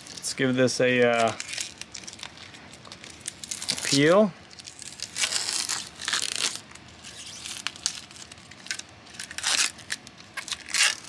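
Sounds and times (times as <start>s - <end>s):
plastic film crinkling and tearing: 0.0s - 11.0s.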